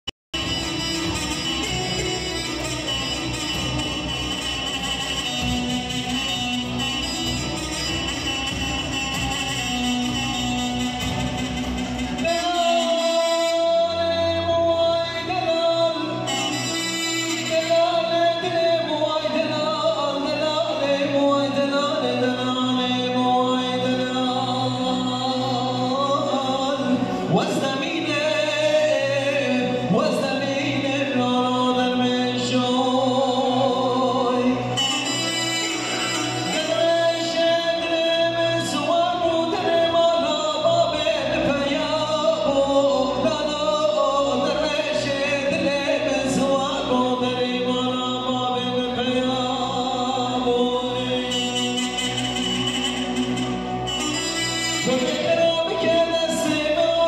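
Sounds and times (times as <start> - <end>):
electronic keyboard accompaniment: 0.3 - 57.0
man singing ornamented folk song: 9.3 - 57.0.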